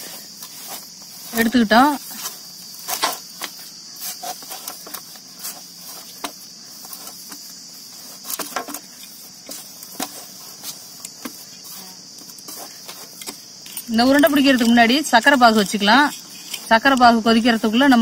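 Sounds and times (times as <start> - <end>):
hand kneading on metal plate: 0.0 - 18.0
insects chirring: 0.0 - 18.0.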